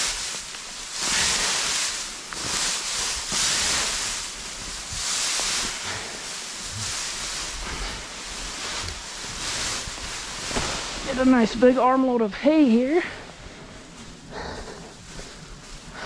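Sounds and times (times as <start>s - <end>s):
dry hay rustling: 0.0s - 16.0s.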